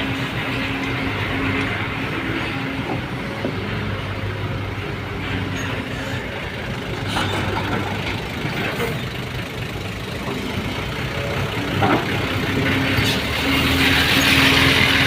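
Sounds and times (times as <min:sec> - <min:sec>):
large vehicle engine rumble: 0:00.0 - 0:15.0.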